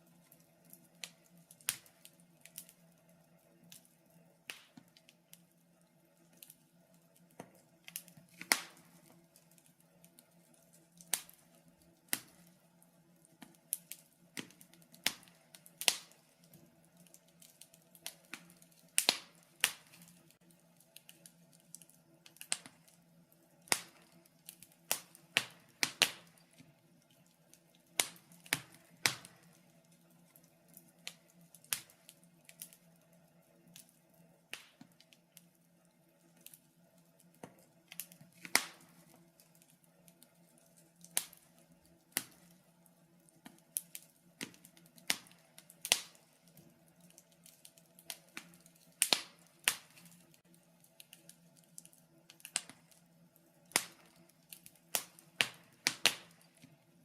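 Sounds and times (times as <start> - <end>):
faint steady hum: 0.0 - 57.0
wood fire crackling: 0.0 - 57.0.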